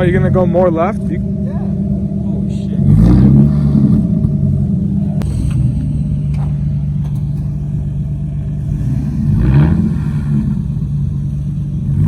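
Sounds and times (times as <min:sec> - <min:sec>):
car engine running: 0:00.0 - 0:12.0
engine revving: 0:00.0 - 0:12.0.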